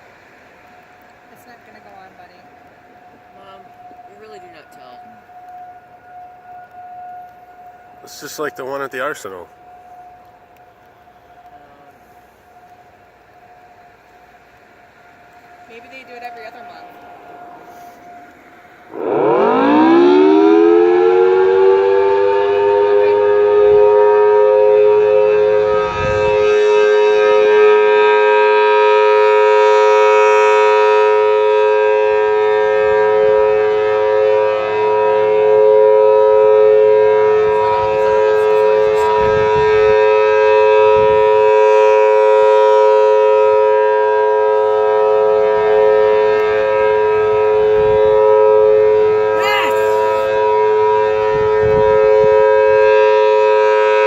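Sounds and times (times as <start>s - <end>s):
two-tone warning siren: 0.0s - 54.0s.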